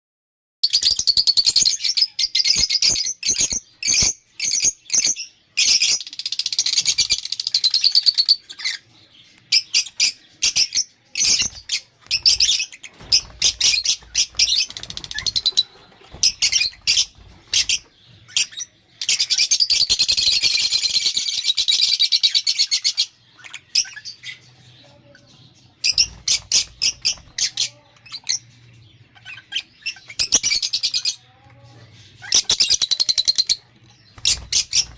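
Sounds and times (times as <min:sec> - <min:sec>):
lovebirds chirping: 0:00.7 - 0:34.9.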